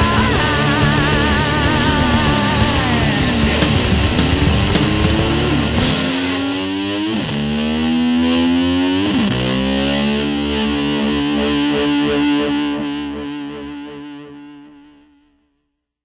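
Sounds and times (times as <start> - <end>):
distorted electric guitar: 0.0 - 15.4.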